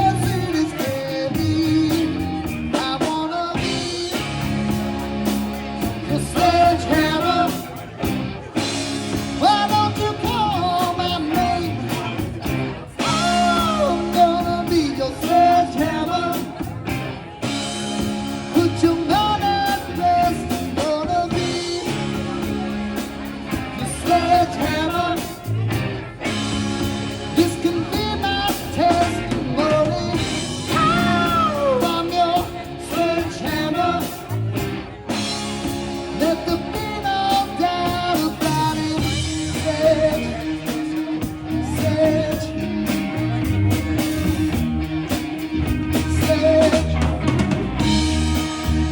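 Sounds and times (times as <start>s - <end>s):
lead singer singing: 0.0s - 44.6s, 45.7s - 48.9s
electric guitar: 0.0s - 48.9s
low bass notes: 0.0s - 48.9s.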